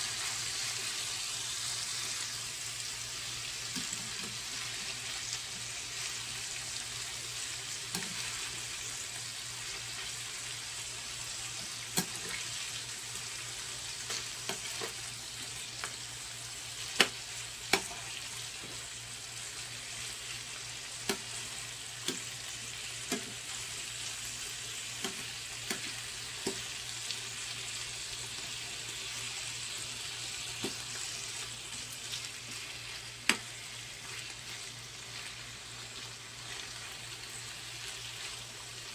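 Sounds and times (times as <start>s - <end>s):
meat sizzling in a frying pan: 0.0s - 38.9s.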